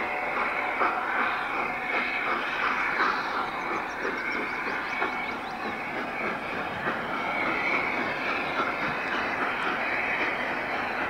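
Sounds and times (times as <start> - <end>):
steam locomotive working steam: 0.0 - 11.0.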